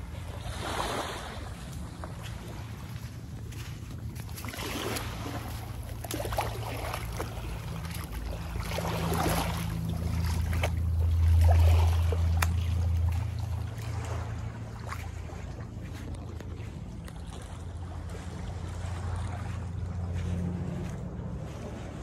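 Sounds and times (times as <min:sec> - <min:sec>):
feet splashing through shallows: 0:00.0 - 0:22.0
low steady hum: 0:00.0 - 0:22.0
small waves washing over sand: 0:00.0 - 0:22.0.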